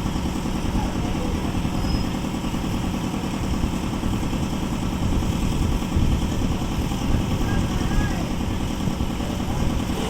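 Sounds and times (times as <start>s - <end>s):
concrete mixer engine drone: 0.0s - 10.0s.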